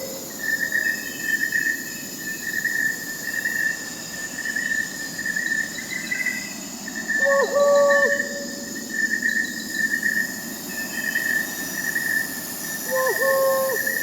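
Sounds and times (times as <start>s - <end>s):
crickets trilling: 0.0s - 14.0s
high-pitched insect trills: 0.0s - 14.0s.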